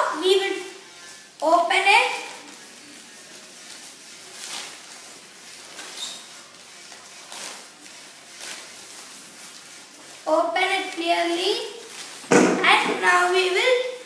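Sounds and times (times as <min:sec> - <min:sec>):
newspaper crinkling and rustling: 0:00.0 - 0:14.0.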